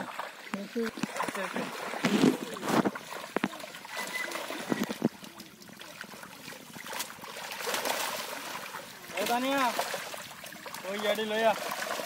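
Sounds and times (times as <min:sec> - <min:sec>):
sharp splashes: 0:00.0 - 0:12.0
water trickling and splashing: 0:00.0 - 0:12.0.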